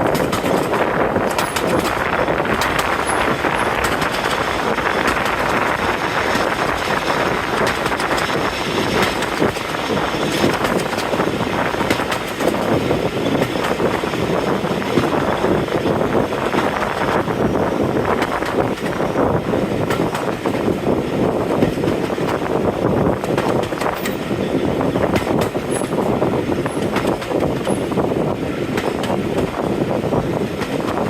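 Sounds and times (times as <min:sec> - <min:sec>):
train rumbling along rails: 0:00.0 - 0:31.0.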